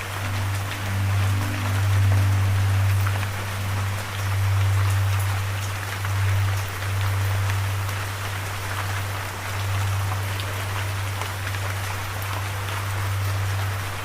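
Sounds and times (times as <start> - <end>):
low drone: 0.0 - 14.0
steady rain falling: 0.0 - 14.0.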